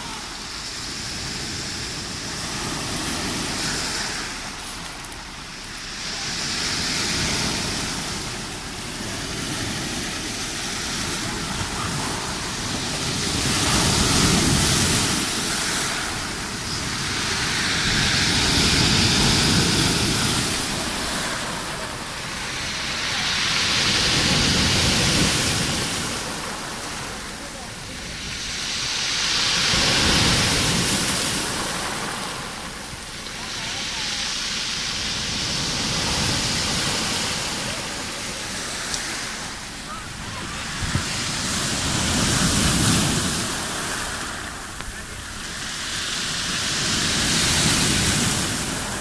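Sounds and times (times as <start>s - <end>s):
waves surging and breaking: 0.0s - 49.0s.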